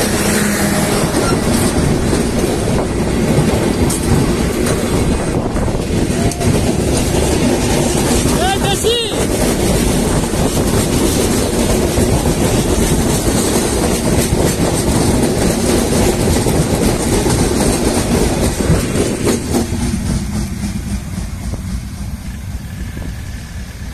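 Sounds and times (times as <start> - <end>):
train coaches rumbling past: 0.0 - 23.9
wheels clicking over rail joints: 0.0 - 23.9.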